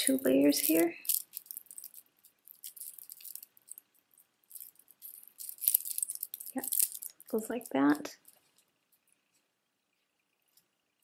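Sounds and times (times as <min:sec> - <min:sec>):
necklace beads clicking: 0:00.0 - 0:09.1.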